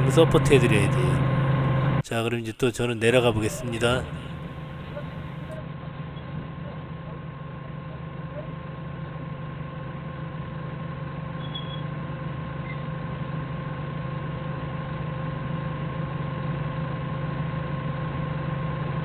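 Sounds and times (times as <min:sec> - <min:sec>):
forklift engine idling: 0:00.0 - 0:02.0, 0:02.8 - 0:19.0.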